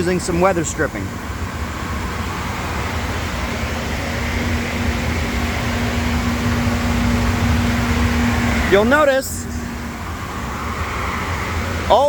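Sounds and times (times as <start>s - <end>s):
low hum tone: 0.0s - 12.0s
machinery running drone: 0.0s - 12.0s.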